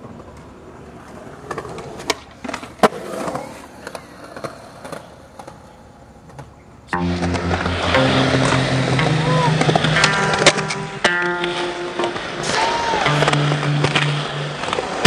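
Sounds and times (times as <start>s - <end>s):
skateboard clacking on ground: 0.0s - 15.0s
skateboard wheels rolling: 0.0s - 15.0s.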